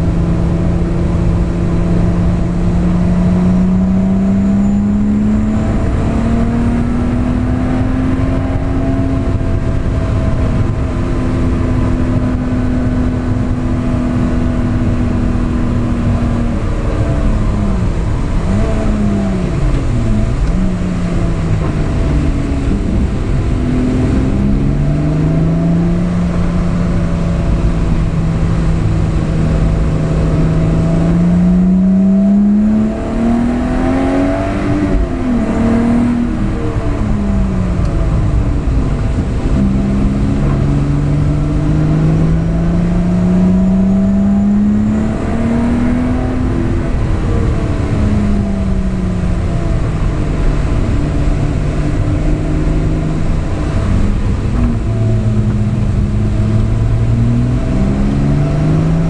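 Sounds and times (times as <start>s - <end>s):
car engine accelerating: 0.0s - 59.0s
tyre and road noise: 0.0s - 59.0s.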